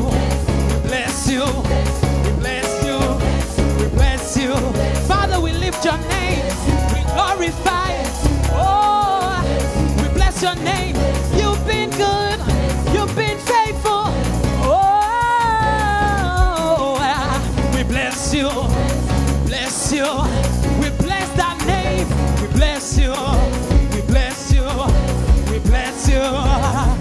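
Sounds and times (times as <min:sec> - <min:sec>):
bass and drums beat: 0:00.0 - 0:27.0
person singing: 0:00.0 - 0:27.0
worship band playing: 0:00.0 - 0:27.0.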